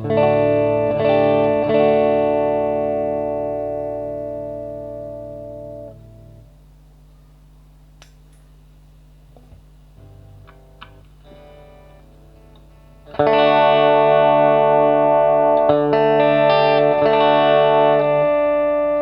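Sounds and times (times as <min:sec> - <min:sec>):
electric guitar chord ringing: 0:00.0 - 0:06.6, 0:10.0 - 0:19.0
low amplifier hum: 0:00.0 - 0:19.0.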